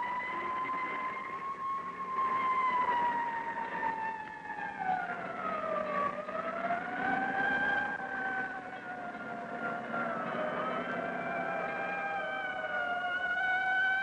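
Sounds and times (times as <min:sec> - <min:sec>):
ambulance siren wailing: 0:00.0 - 0:14.0.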